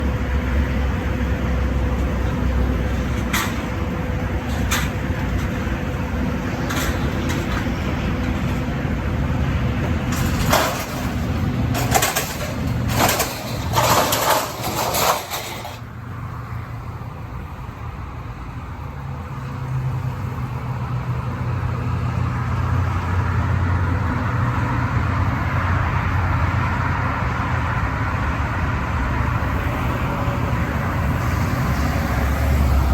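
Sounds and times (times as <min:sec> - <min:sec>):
vehicle engine rumble: 0:00.0 - 0:32.9.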